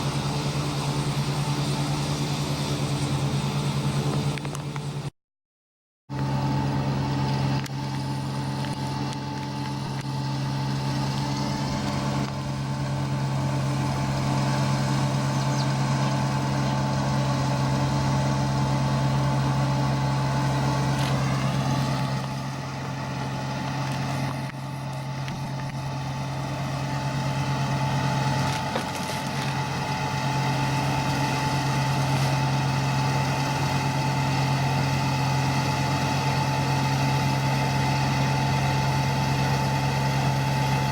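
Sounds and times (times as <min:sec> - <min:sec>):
harvester engine hum: 0:00.0 - 0:05.1, 0:06.1 - 0:40.9
high whine: 0:06.1 - 0:40.9.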